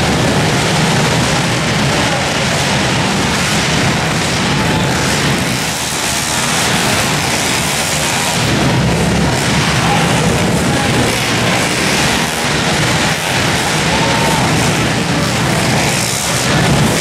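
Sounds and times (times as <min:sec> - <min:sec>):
dirt bike engines racing: 0:00.0 - 0:17.0.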